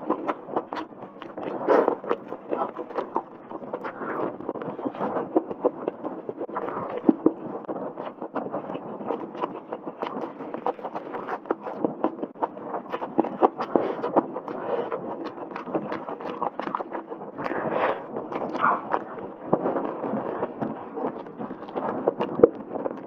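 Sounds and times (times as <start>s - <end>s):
wet chewing and lip smacking: 0.0s - 23.0s.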